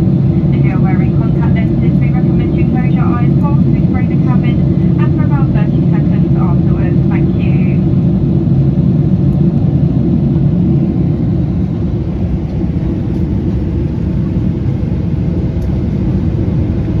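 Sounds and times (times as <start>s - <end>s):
jet engine and airflow roar in cabin: 0.0s - 17.0s.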